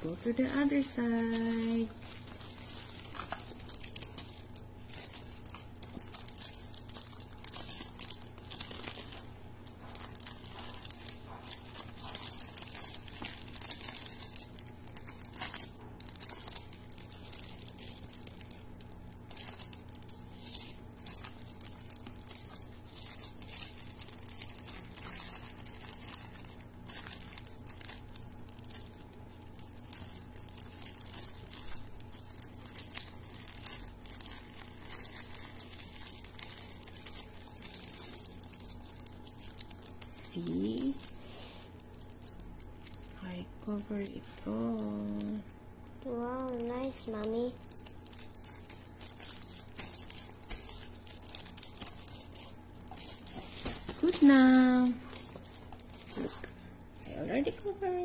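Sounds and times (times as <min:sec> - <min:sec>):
wrapping paper crinkling: 0:00.0 - 0:58.0.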